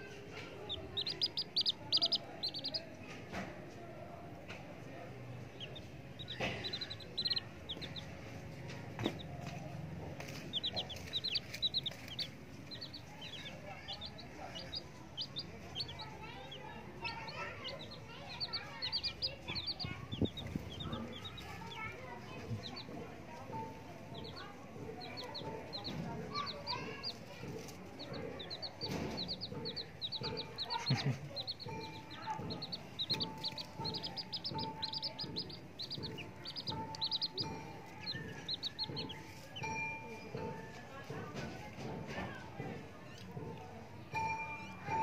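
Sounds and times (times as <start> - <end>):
baby chicks peeping: 0.0 - 45.0.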